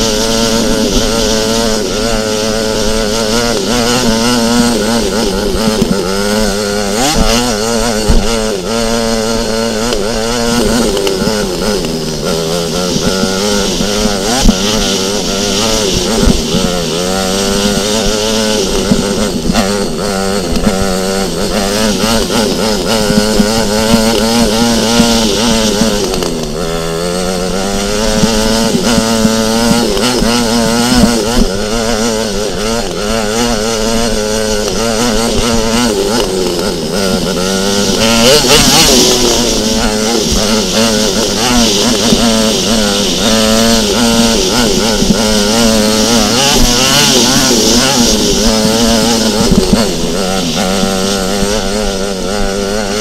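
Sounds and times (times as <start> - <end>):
motocross bike engine revving: 0.0 - 53.0.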